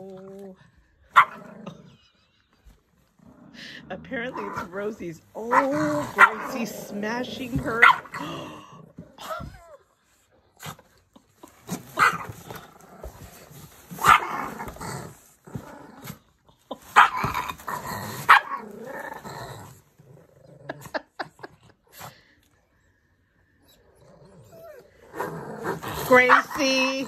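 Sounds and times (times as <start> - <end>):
dogs growling and barking: 0.0 - 22.5, 23.2 - 27.0.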